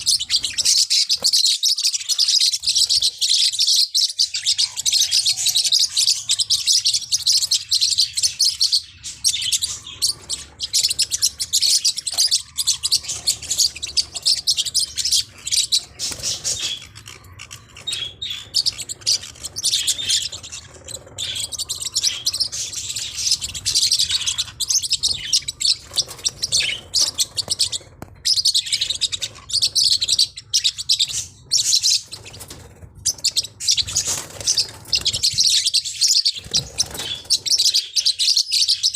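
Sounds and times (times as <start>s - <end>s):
parrotlets chirping: 0.0s - 38.9s.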